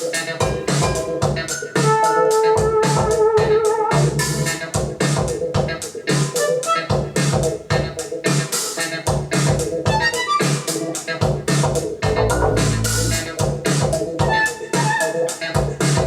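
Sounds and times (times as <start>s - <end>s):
music with a steady beat: 0.0s - 16.0s.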